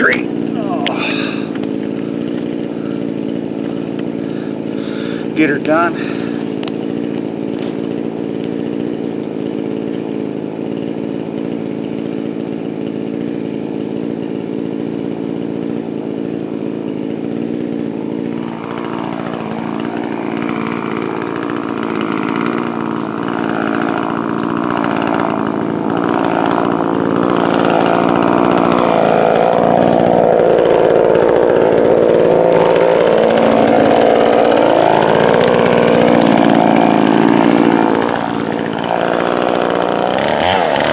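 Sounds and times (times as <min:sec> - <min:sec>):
chainsaw cutting into wood: 0:00.0 - 0:40.9
chainsaw running: 0:00.0 - 0:40.9.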